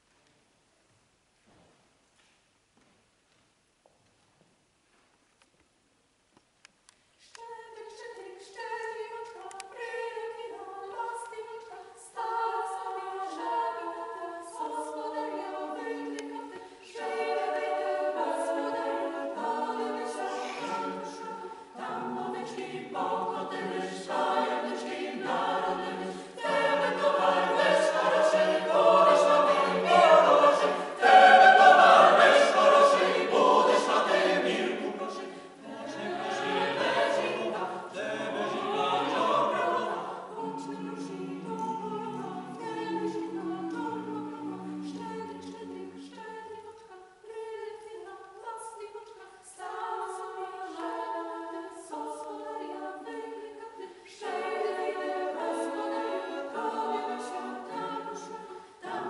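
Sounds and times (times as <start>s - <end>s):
mixed choir singing a cappella: 7.4s - 59.0s.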